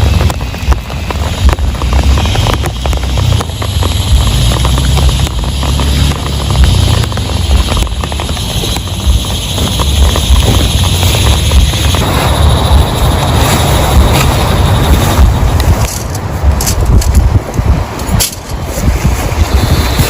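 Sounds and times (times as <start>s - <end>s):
loud low rumble: 0.0s - 18.0s
heavy rain patter: 0.0s - 20.0s.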